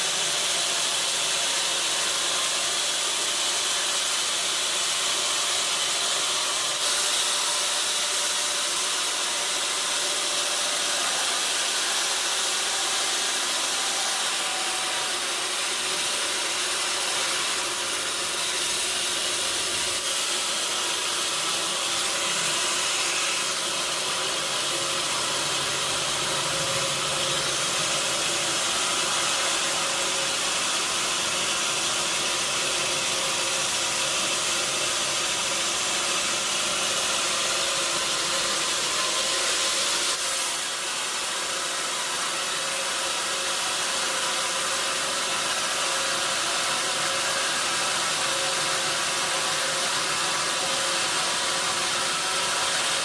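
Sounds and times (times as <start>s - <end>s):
sawmill machinery hissing: 0.0s - 53.0s.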